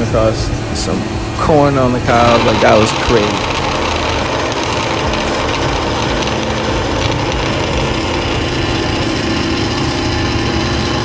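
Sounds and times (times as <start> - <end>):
band saw running: 0.0 - 11.0.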